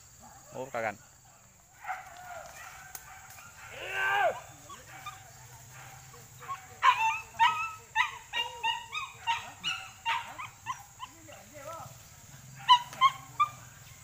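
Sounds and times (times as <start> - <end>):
dogs yelping: 1.8 - 11.8, 12.4 - 14.0.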